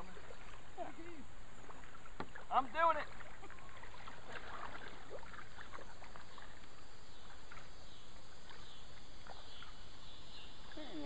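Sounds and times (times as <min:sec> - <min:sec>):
paddle dipping and dripping: 0:00.0 - 0:11.0
small water splashes: 0:00.0 - 0:11.0.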